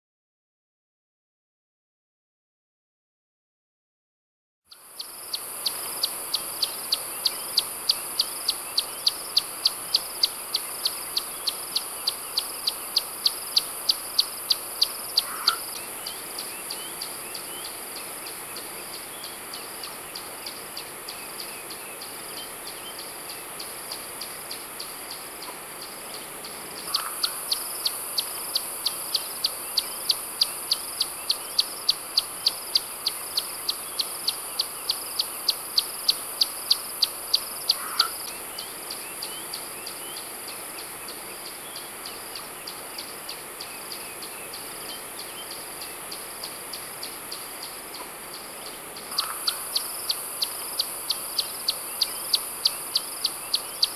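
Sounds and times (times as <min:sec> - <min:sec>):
high insect buzz: 0:04.7 - 0:22.3, 0:23.0 - 0:39.7, 0:44.5 - 0:53.9
sharp insect chirps: 0:04.7 - 0:53.9.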